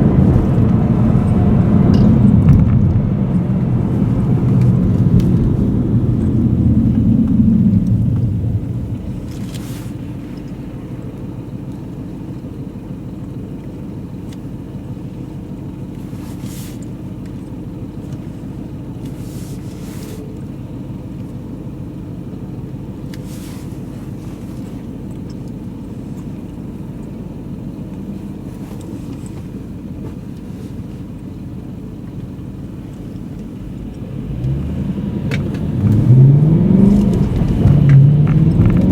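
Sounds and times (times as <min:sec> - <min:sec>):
car engine from inside cabin: 0:00.0 - 0:38.9.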